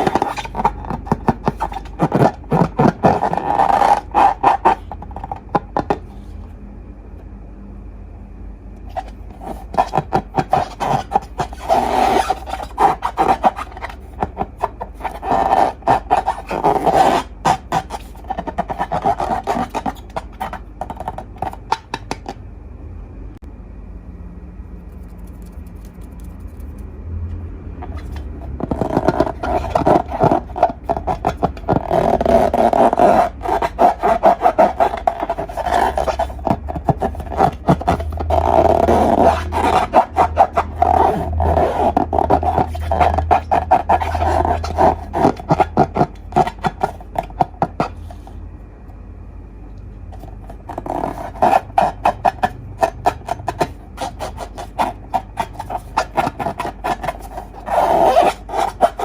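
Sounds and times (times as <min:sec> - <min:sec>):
balloons and slime squeezed by hand: 0:00.0 - 0:06.2, 0:08.9 - 0:22.4, 0:27.8 - 0:48.2, 0:50.2 - 0:59.0.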